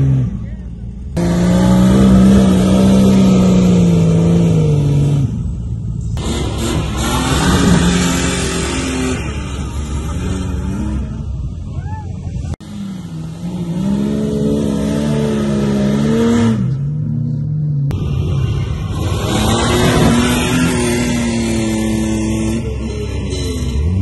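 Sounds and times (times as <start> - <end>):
truck engines revving hard: 0.0 - 24.0.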